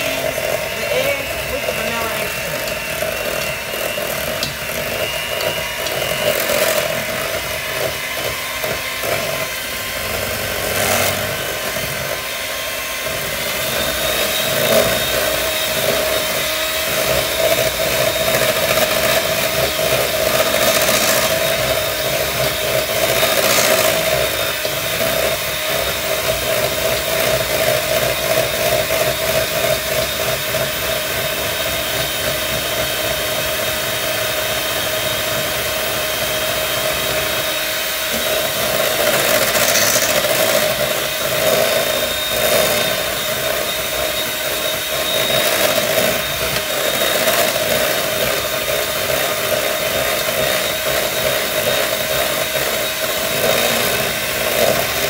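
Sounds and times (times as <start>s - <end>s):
electric hand mixer whining: 0.0s - 55.0s.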